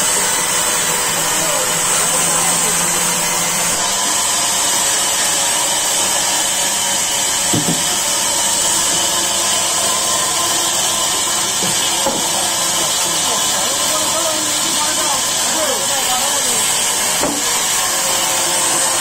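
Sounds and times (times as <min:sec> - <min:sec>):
band saw whining through wood: 0:00.0 - 0:19.0.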